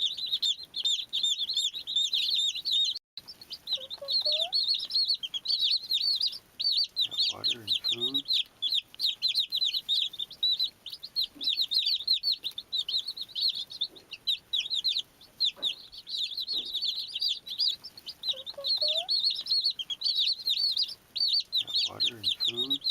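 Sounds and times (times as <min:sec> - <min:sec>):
baby chicks peeping: 0:00.0 - 0:22.9.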